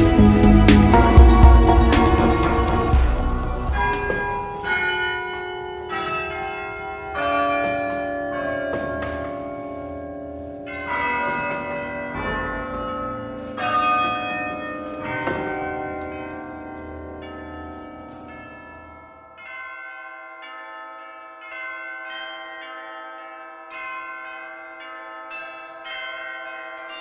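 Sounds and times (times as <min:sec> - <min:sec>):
carillon bells ringing a slow tune: 0:00.0 - 0:27.0.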